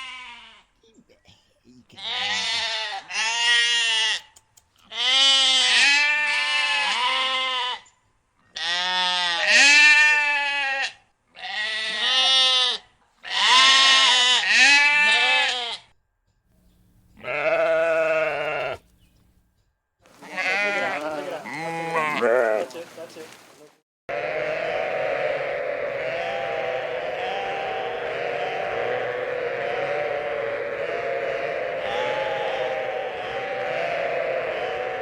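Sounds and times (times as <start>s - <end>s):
sheep bleating: 0.0s - 0.8s, 1.9s - 7.9s, 8.5s - 15.9s, 17.1s - 19.0s, 20.1s - 35.0s.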